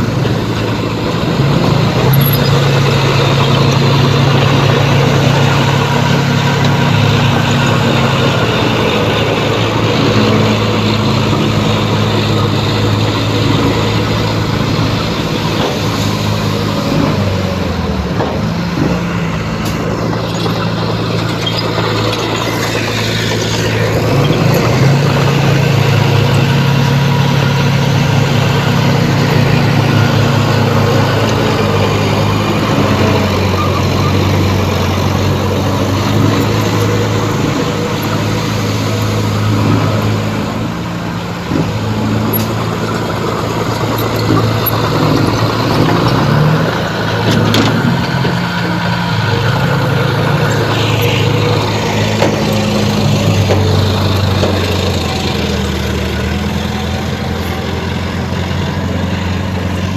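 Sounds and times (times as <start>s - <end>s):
broad clattering noise: 0.0s - 59.9s
heavy diesel engine running: 0.0s - 59.9s.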